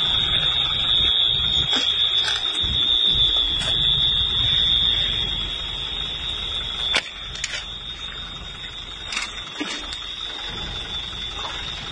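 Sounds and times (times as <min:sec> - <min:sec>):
high-pitched electronic alarm tone: 0:00.0 - 0:11.9
low rumbling noise: 0:00.0 - 0:11.9.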